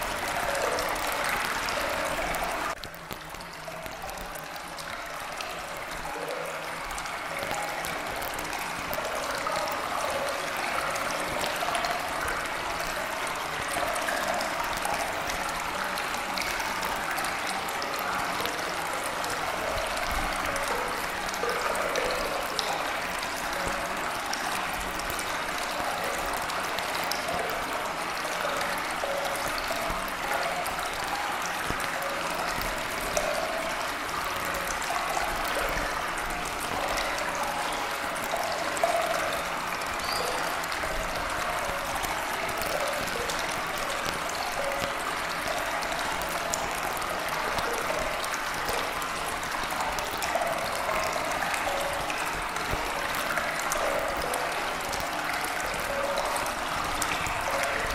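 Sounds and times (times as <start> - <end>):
trickling stream: 0.0 - 57.9.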